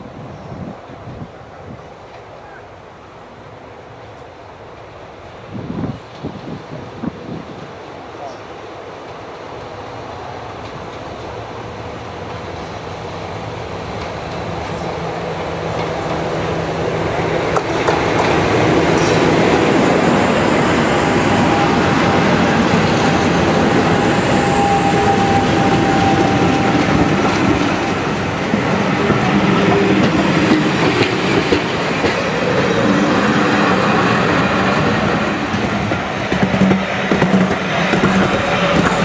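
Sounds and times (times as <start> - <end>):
diesel locomotives roaring past: 0.0 - 39.0.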